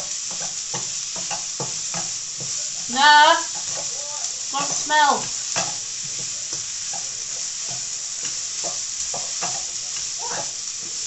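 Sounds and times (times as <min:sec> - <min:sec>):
stirring knocks and scrapes: 0:00.0 - 0:02.8, 0:03.5 - 0:04.0, 0:04.6 - 0:11.0
food sizzling in a pan: 0:00.0 - 0:11.0.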